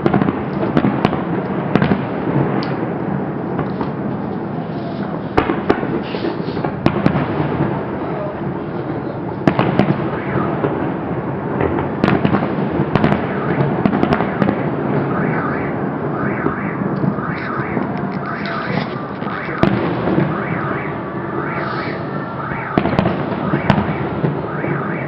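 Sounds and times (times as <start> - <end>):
loud firework bangs: 0.0 - 25.0
rumble of firework bursts: 0.0 - 25.0.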